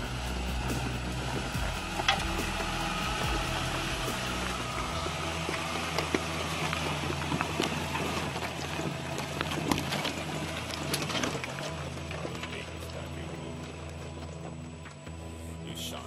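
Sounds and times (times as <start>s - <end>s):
stones cracking under tyres: 0.0s - 15.1s
engine running at low revs: 0.0s - 16.0s.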